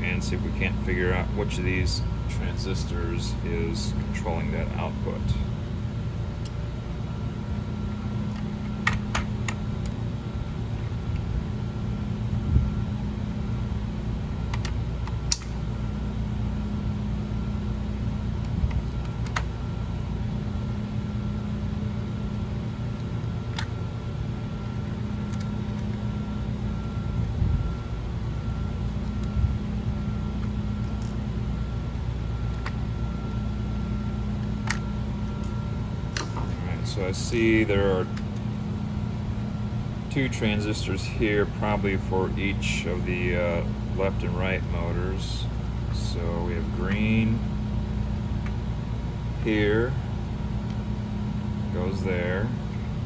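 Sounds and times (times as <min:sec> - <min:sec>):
faint high whine: 0:00.0 - 0:53.0
low machine hum: 0:00.0 - 0:53.0.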